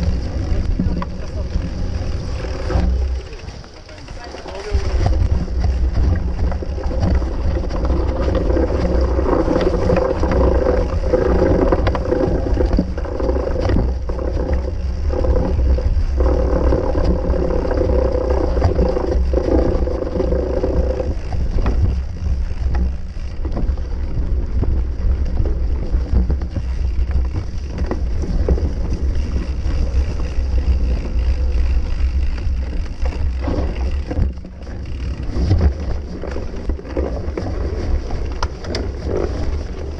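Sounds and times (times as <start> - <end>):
bike rattling and knocking: 0.0 - 39.9
wind rumble on microphone: 0.0 - 39.9.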